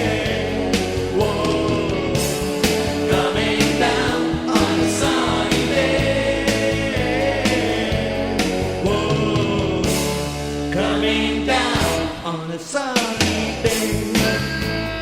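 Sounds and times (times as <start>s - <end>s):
rock band song: 0.0s - 15.0s.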